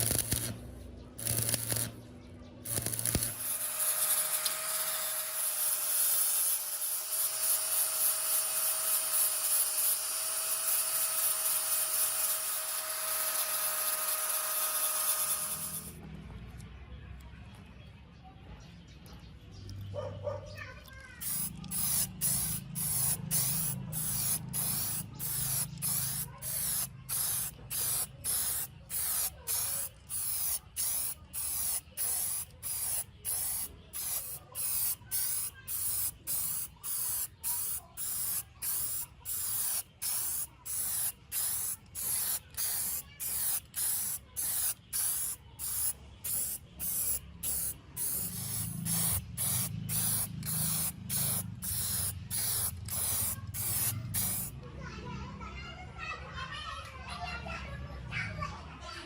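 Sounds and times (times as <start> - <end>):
spray paint hissing: 0.0 - 2.0, 2.6 - 16.0, 21.2 - 54.6.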